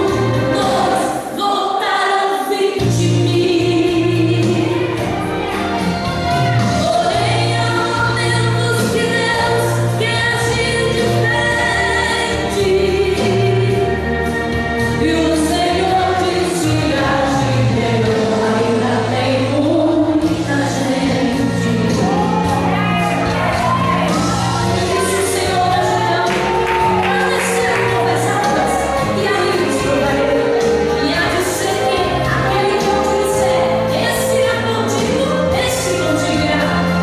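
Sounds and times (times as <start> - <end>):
gospel choir singing: 0.0 - 37.0
bass line: 2.8 - 37.0.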